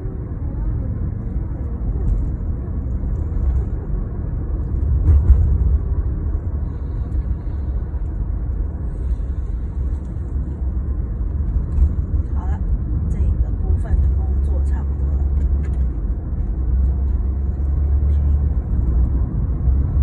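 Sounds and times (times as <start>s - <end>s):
vehicle road noise rumble: 0.0s - 20.0s.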